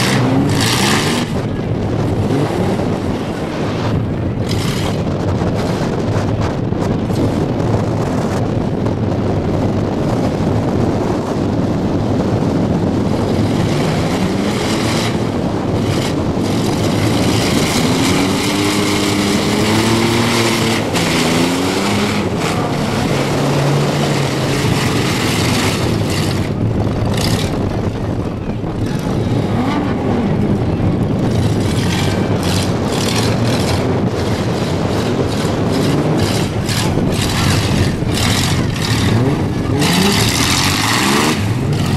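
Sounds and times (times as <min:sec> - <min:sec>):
van engines revving: 0:00.0 - 0:41.9.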